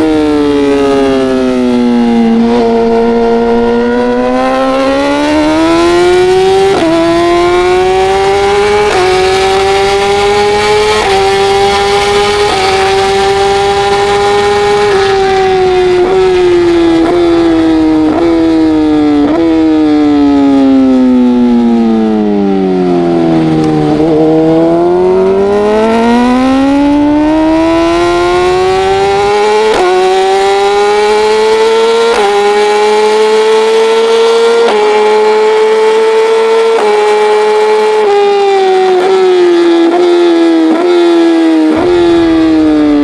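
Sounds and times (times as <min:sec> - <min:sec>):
racing motorcycle engine: 0:00.0 - 0:43.0.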